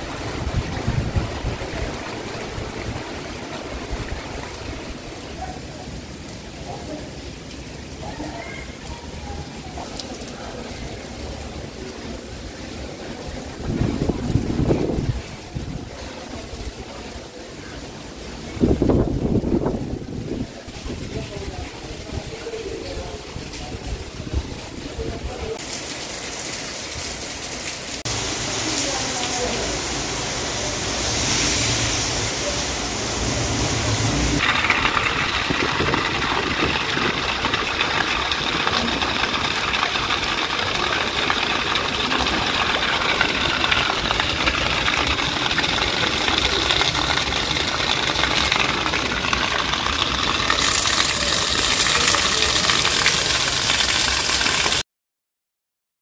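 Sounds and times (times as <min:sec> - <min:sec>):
heavy rain splashing on water: 0:00.0 - 0:54.8
rain splattering on concrete: 0:00.0 - 0:54.8.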